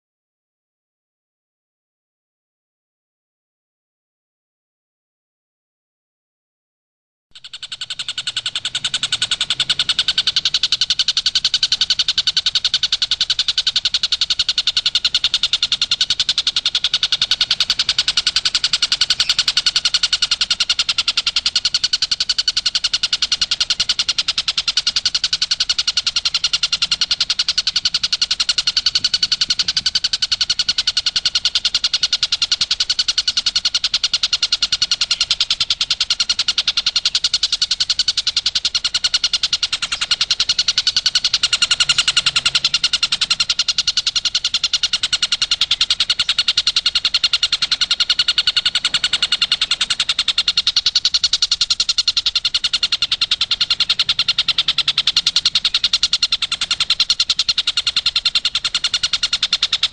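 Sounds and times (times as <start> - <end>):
kingfisher rattling trill: 7.4 - 59.9.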